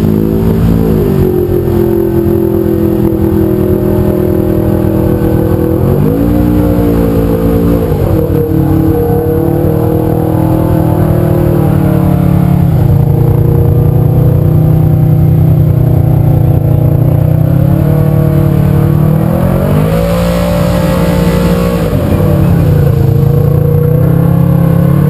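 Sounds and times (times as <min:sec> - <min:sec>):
engine running hard under load: 0:00.0 - 0:25.0.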